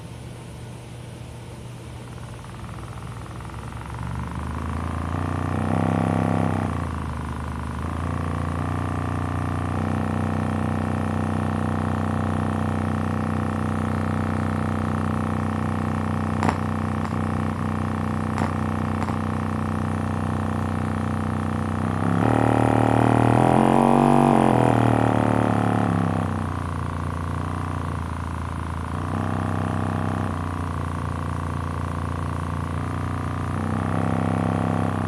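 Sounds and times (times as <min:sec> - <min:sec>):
speaker buzzy bass drone: 0:01.9 - 0:35.0.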